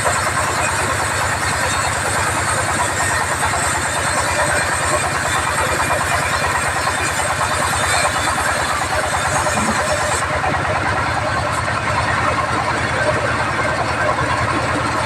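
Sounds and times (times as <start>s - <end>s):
band sawmill running: 0.0s - 15.0s.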